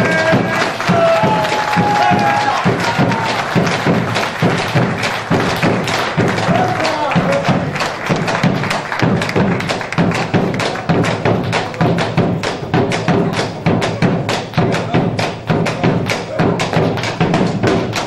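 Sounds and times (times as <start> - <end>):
sharp percussive beat: 0.0 - 18.0.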